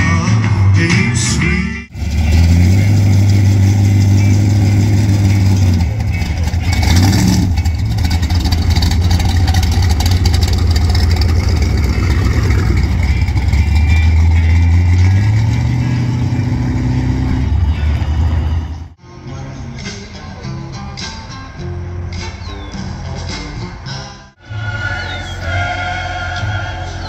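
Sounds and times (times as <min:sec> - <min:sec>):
deep rumbling car engines: 0:00.0 - 0:27.0.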